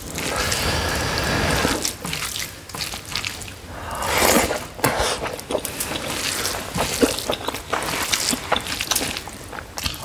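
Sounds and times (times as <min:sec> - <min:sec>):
wet chewing mouth sounds: 0:00.2 - 0:10.0.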